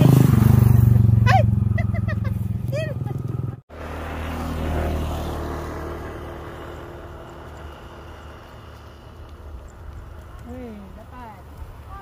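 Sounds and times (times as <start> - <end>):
vehicle engine drone: 0.0 - 11.8.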